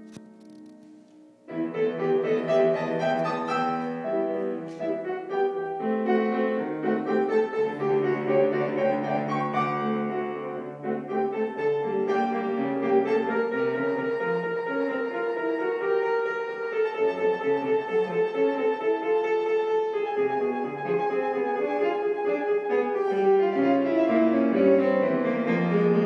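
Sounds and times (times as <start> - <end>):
grand piano playing classical music: 0.0 - 26.0.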